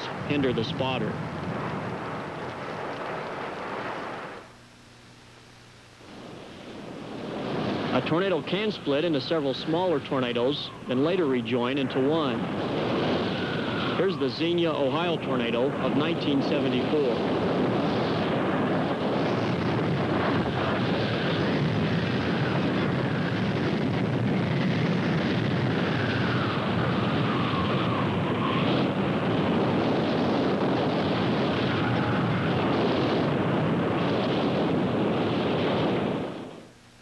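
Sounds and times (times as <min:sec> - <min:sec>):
tornado roaring: 0:00.0 - 0:04.5, 0:06.0 - 0:36.7
wind rushing over microphone: 0:00.0 - 0:04.5, 0:06.0 - 0:36.7.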